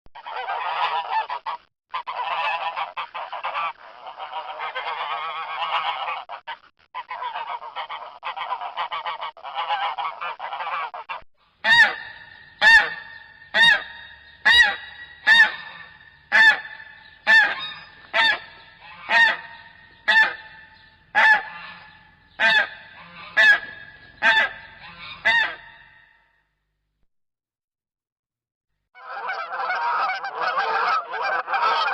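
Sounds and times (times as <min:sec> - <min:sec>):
geese honking: 0:00.2 - 0:26.2, 0:29.0 - 0:31.9.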